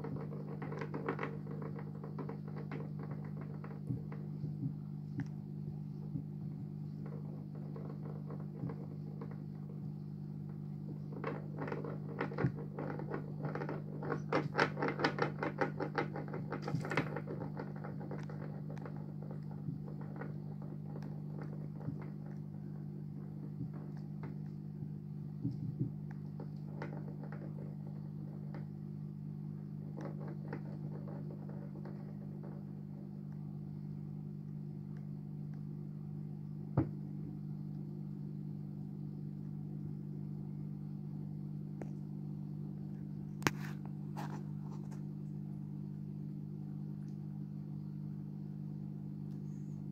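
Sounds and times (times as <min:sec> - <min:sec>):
aquarium low hum: 0:00.0 - 0:49.9.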